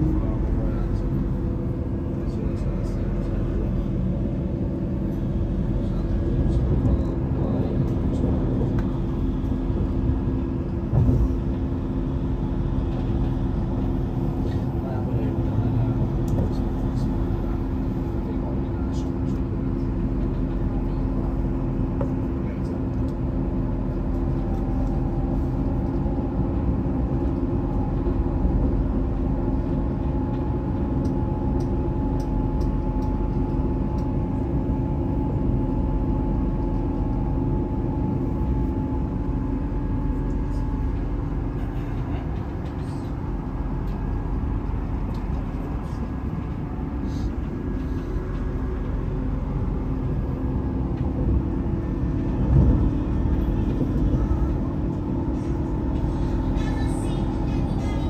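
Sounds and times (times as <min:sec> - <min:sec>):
electric train hum: 0:00.0 - 0:58.0
train wheels rumbling on rail: 0:00.0 - 0:58.0.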